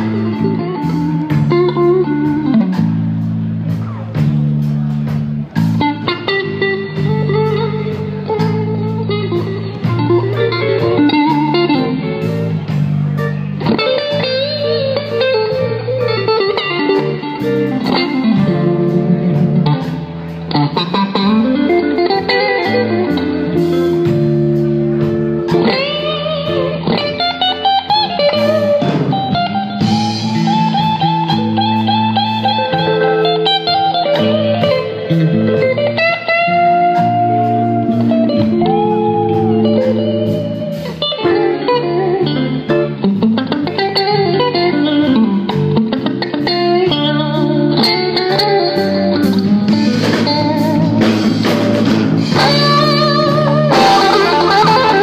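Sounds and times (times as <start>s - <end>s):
bass line: 0.0s - 55.0s
electric guitar solo: 0.0s - 55.0s.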